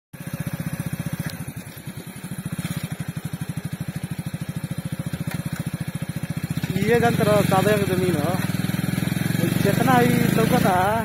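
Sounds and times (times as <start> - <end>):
motorcycle engine at low revs: 0.1 - 11.0.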